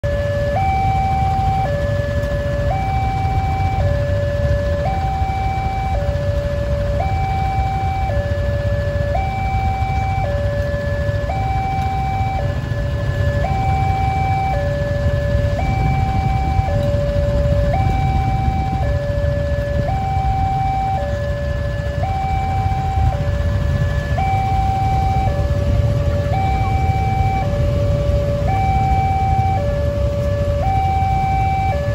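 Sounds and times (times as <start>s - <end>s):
idling vehicle engines rumble: 0.0s - 31.9s
two-tone crossing alarm: 0.0s - 31.9s.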